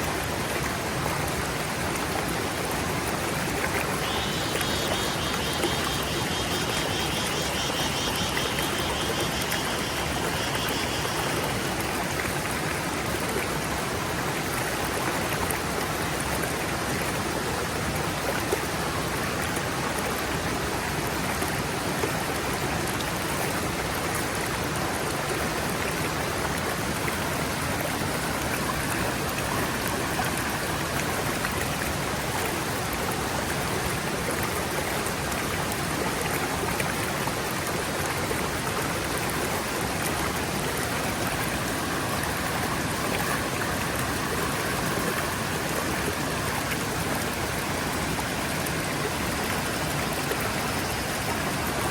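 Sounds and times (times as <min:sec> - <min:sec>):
stream running and splashing: 0:00.0 - 0:51.9.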